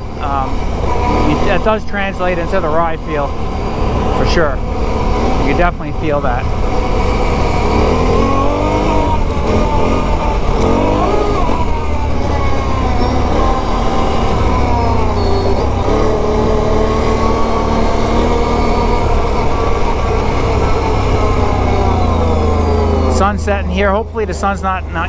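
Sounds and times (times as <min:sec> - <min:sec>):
atv engine running: 0:00.0 - 0:25.0
tyres rumbling on dirt: 0:00.0 - 0:25.0
wind: 0:00.0 - 0:25.0.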